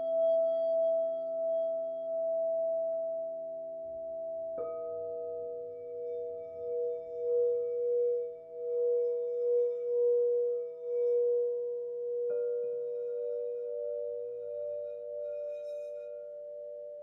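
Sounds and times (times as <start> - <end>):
crystal singing bowls ringing: 0.0 - 17.0.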